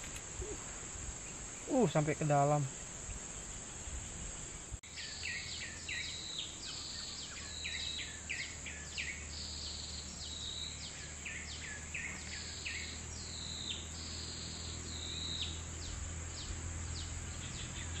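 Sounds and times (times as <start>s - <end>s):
birds calling with descending notes: 0.3s - 18.0s.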